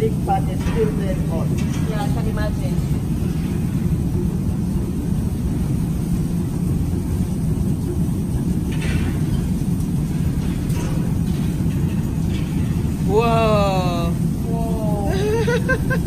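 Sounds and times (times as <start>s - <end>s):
furnace burners roaring: 0.0s - 16.0s.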